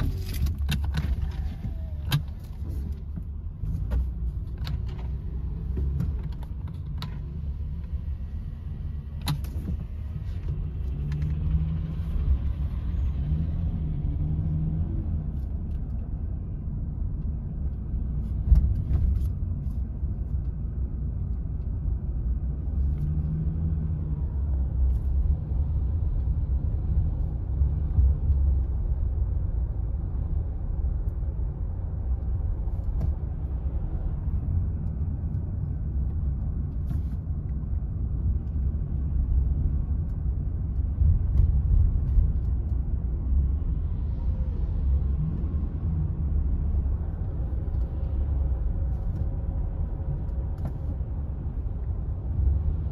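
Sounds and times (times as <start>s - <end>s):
car interior road rumble: 0.0s - 52.9s.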